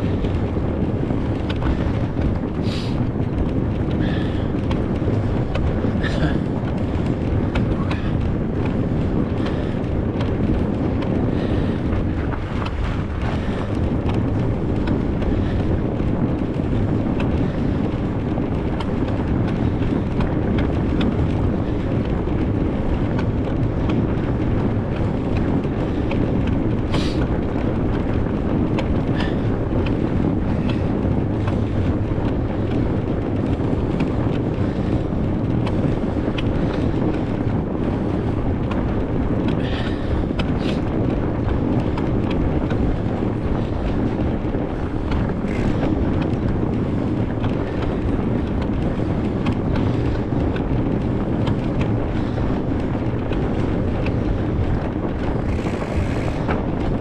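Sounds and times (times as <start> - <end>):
bike rolling through snow: 0.0 - 57.0
wind buffeting microphone: 0.0 - 57.0.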